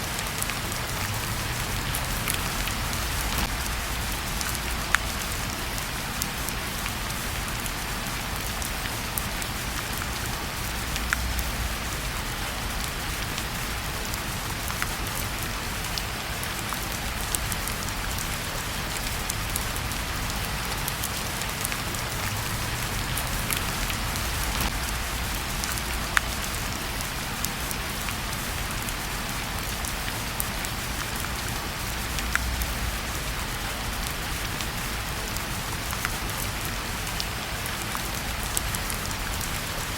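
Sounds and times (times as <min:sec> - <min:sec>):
wood fire crackling: 0:00.0 - 0:39.7
rain falling: 0:00.0 - 0:39.9.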